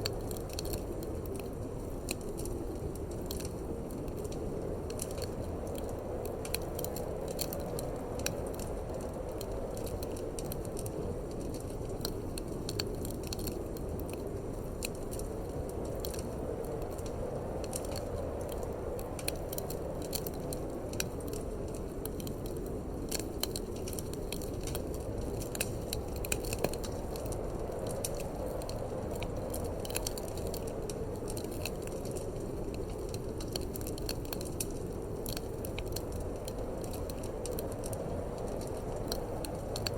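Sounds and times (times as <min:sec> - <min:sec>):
low rush of wind: 0:00.0 - 0:39.9
wood fire crackling: 0:00.0 - 0:39.9.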